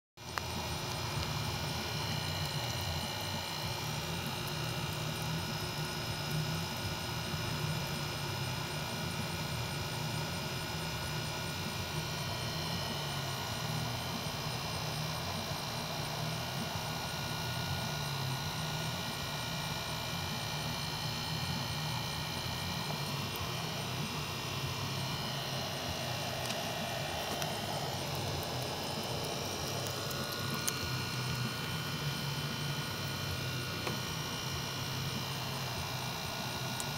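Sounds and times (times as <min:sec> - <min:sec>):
steady hum: 0:00.2 - 0:36.9.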